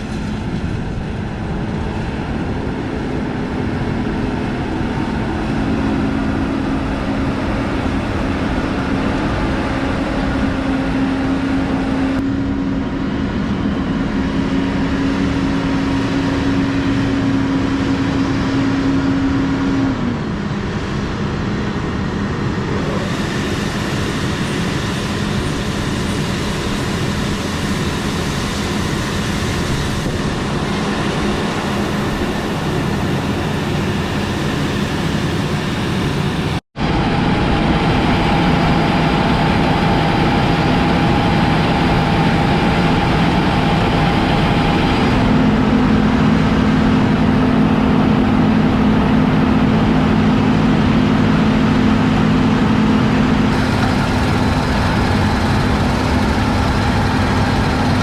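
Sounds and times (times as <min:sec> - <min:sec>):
heavy farm machinery running: 0:00.0 - 0:58.0
high whine: 0:00.0 - 0:58.0.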